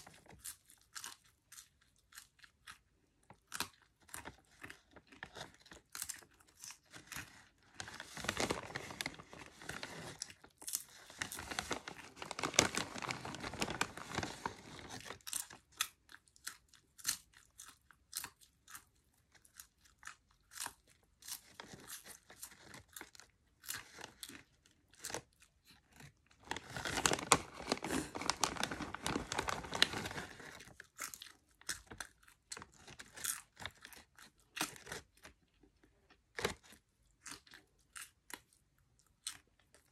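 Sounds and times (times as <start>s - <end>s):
popcorn being chewed: 0.0s - 39.9s.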